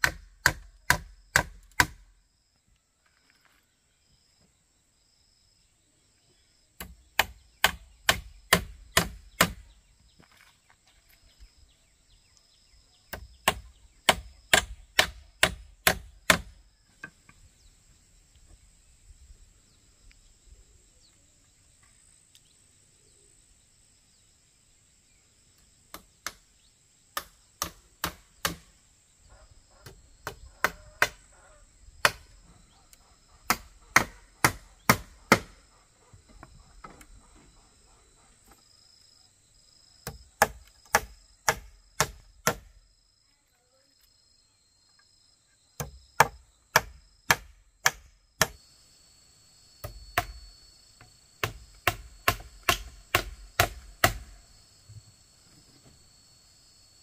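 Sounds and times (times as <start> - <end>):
high insect chirr: 0.0 - 57.0.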